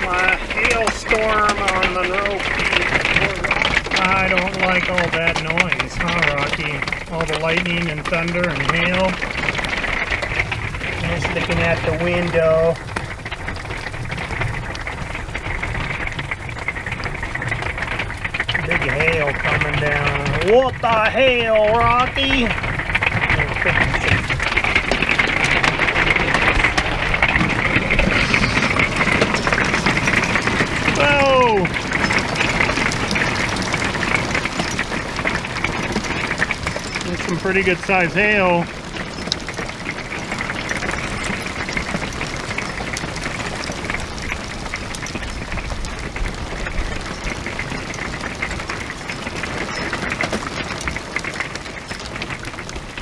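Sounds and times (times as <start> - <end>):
hail clattering on roof: 0.0 - 53.0
rush of falling precipitation: 0.0 - 53.0.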